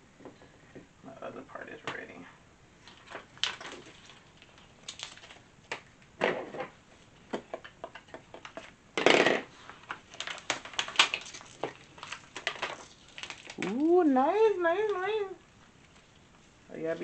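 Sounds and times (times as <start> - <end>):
vinyl crackling and rustling: 1.3 - 17.0
vinyl crinkling rustle: 2.8 - 8.8, 9.4 - 17.0.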